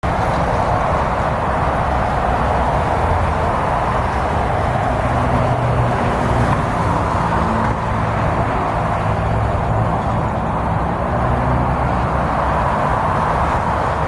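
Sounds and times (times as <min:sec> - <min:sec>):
highway traffic: 0:00.0 - 0:14.0.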